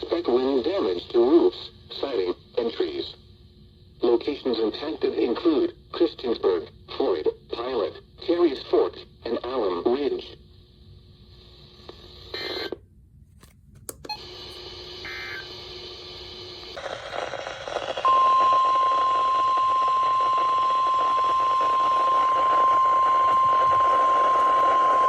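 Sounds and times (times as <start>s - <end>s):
radio static hiss: 0.0s - 3.2s, 4.0s - 10.4s, 11.2s - 12.8s, 14.3s - 25.0s.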